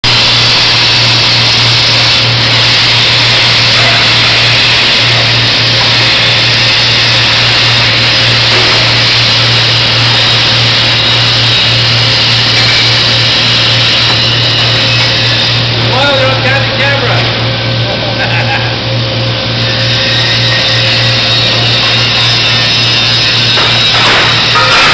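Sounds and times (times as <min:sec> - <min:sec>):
welding arc sizzling and crackling: 0:00.0 - 0:24.9
steady low hum: 0:00.1 - 0:24.9.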